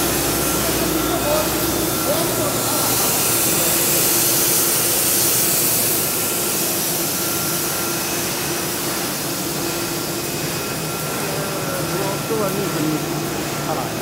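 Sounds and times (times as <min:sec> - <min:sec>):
machine hissing: 0:00.0 - 0:14.0.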